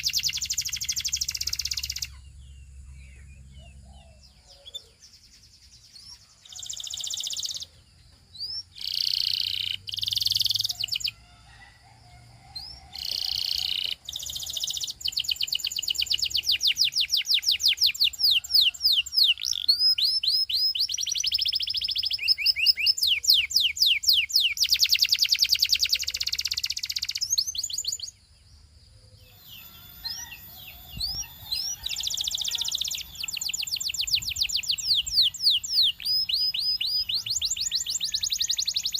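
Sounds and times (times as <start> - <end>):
canary singing trills: 0.0 - 11.4, 12.4 - 38.9.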